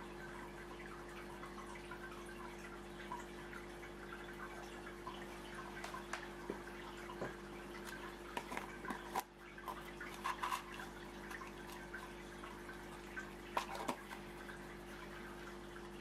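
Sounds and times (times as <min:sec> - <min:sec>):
aquarium water trickling: 0:00.0 - 0:16.0.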